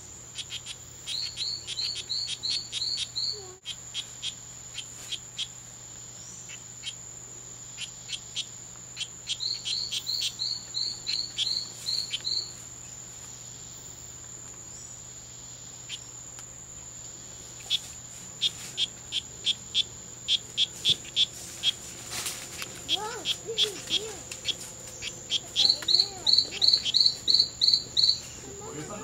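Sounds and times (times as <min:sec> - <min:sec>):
frogs chirping: 0:00.0 - 0:29.0.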